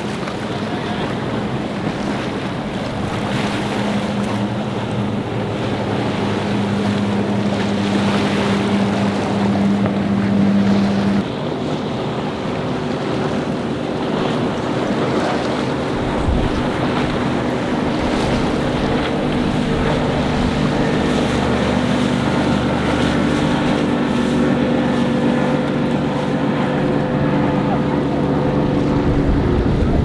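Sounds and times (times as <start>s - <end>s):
motorboat engines running: 0.0s - 30.0s
waves washing: 0.0s - 30.0s
wind buffeting microphone: 0.0s - 30.0s.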